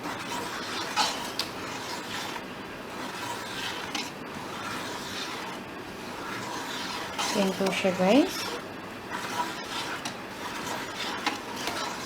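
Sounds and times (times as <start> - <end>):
utensil clicks and scrapes: 0.0 - 12.0.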